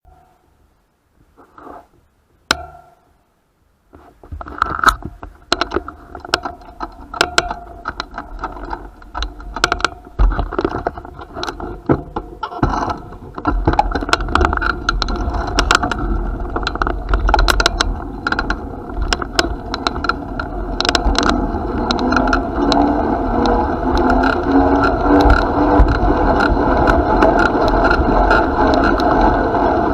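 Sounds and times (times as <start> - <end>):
steady rumble: 0.0 - 29.9
bicycle parts rattling and clicking: 4.4 - 29.9.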